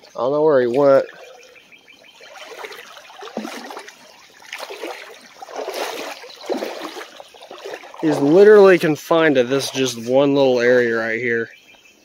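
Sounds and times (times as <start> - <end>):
creek water trickling: 0.0 - 11.2.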